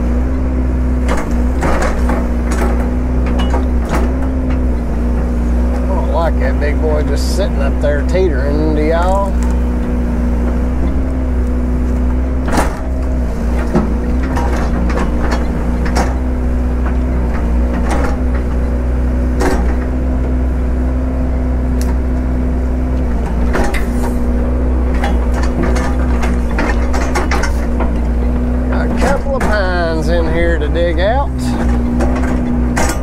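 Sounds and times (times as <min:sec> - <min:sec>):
heavy machine engine humming: 0:00.0 - 0:33.0
metallic clanks and knocks: 0:01.0 - 0:06.8, 0:07.4 - 0:20.3, 0:22.9 - 0:33.0.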